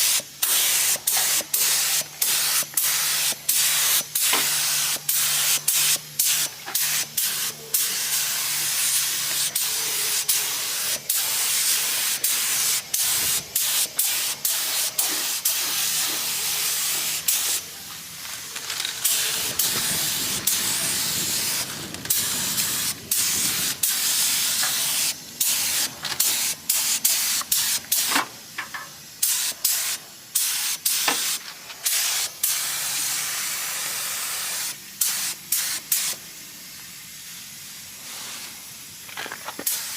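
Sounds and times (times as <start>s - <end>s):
paint spray gun hissing: 0.0s - 39.0s, 39.6s - 39.9s.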